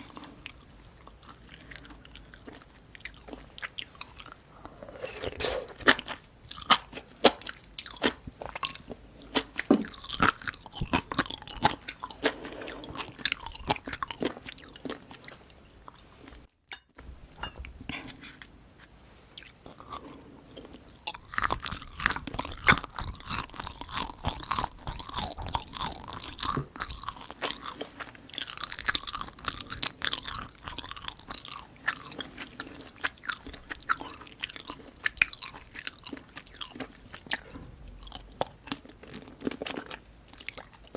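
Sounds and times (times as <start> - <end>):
chewing and biting: 0.0 - 16.4, 19.4 - 40.9.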